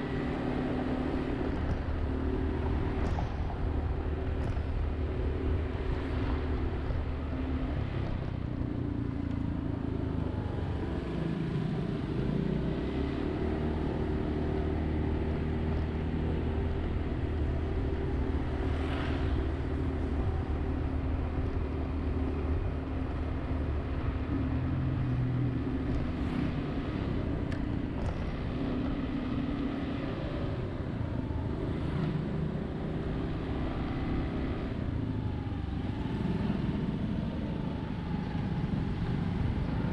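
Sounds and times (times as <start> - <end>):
vehicle engines running: 0.0 - 39.9
vehicles passing: 0.0 - 39.9.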